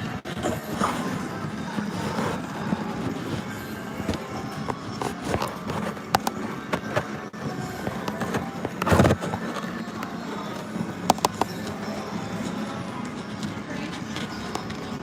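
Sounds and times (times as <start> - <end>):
din of gaming machines: 0.0 - 15.0
faint background music: 0.0 - 15.0.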